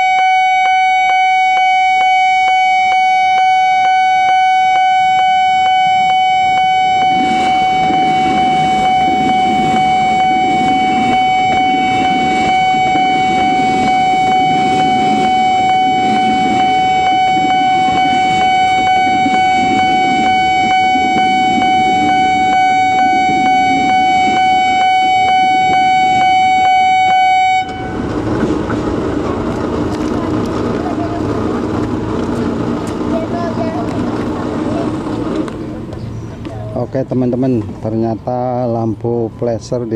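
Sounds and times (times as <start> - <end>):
level crossing alarm tone: 0.0 - 35.5
train rumbling past: 0.0 - 39.9
wheels clattering over rails: 6.8 - 39.9.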